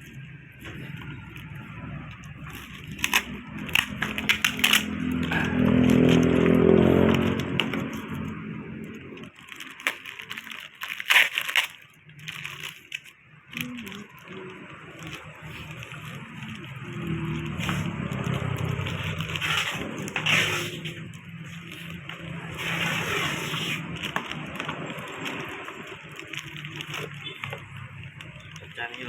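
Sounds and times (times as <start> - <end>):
cardboard and plastic crackling: 0.0 - 29.0
motor vehicle passing: 0.1 - 9.4, 13.4 - 29.0.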